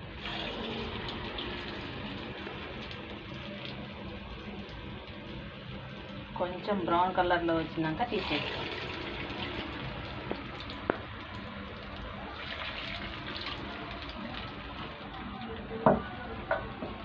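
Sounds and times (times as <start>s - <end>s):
food sizzling in hot oil: 0.0s - 15.8s.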